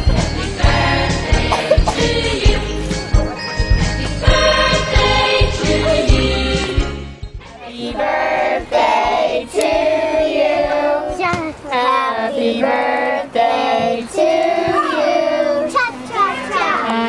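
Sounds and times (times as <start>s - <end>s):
children singing: 0.0s - 3.4s, 4.0s - 7.0s, 7.7s - 17.0s.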